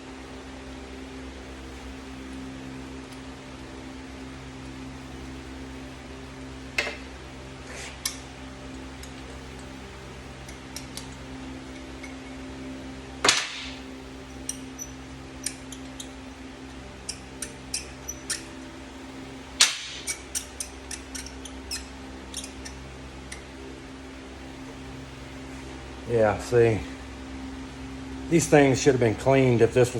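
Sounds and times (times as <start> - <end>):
steady electrical hum: 0.0 - 29.9.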